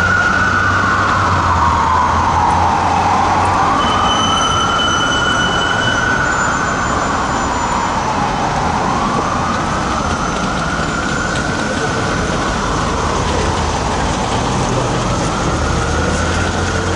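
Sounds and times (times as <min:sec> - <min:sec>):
fire truck siren wailing: 0:00.0 - 0:16.9
traffic passing: 0:00.0 - 0:16.9.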